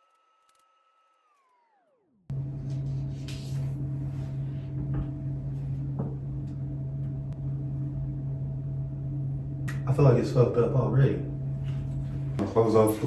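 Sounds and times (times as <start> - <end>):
low electric hum: 2.3 - 13.0.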